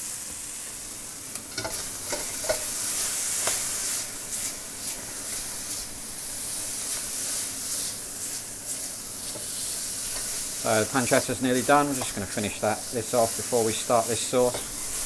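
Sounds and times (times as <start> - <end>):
meat sizzling in a wok: 0.0 - 15.0
spatula scraping a pan: 1.5 - 15.0.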